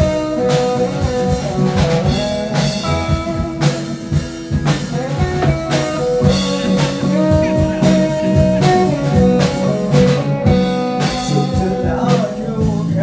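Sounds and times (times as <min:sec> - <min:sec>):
drum kit: 0:00.0 - 0:13.0
guitar melody: 0:00.0 - 0:13.0.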